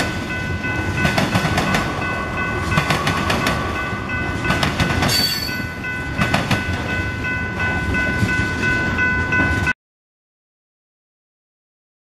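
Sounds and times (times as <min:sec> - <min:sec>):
train rumbling: 0:00.0 - 0:09.8.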